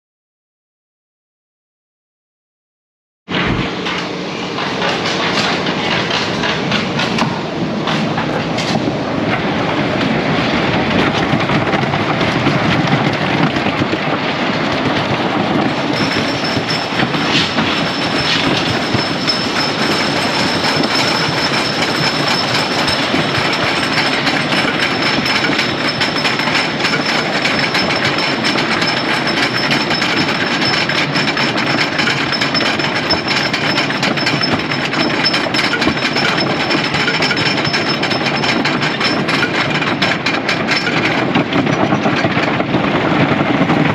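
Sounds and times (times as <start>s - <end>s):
roller coaster clattering: 3.3s - 43.9s.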